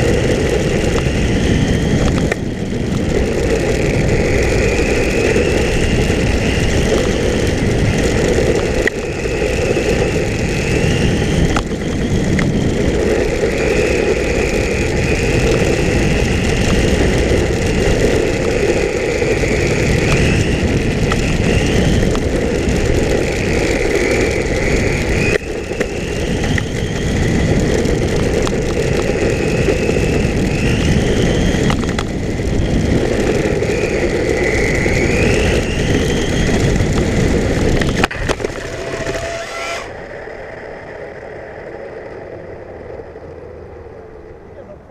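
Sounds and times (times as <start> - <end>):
electric motor whining: 0.0 - 40.0
tyre and wind noise: 0.0 - 44.9.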